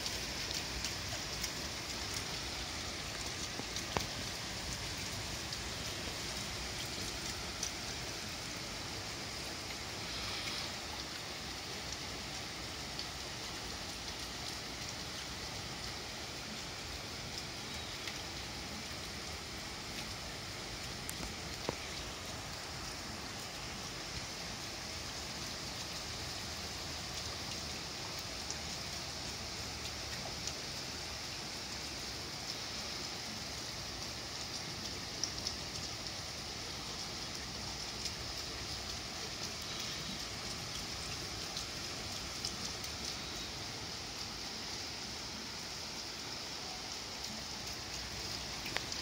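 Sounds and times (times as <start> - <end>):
close raindrop ticks: 0.0 - 49.0
rain hissing on trees and roof: 0.0 - 49.0.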